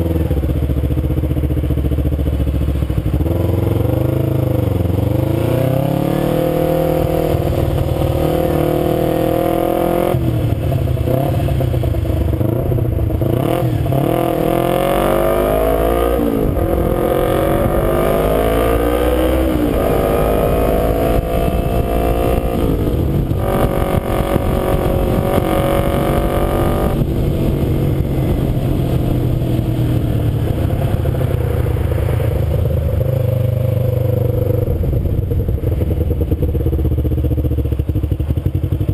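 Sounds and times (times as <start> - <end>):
motorcycle engine shifting gears: 0.0 - 38.9
low wind rumble: 3.1 - 38.9.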